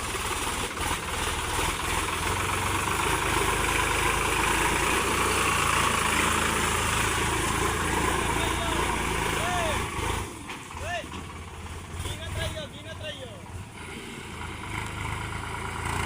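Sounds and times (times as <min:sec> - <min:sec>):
heavy machinery diesel engine running: 0:00.0 - 0:16.0.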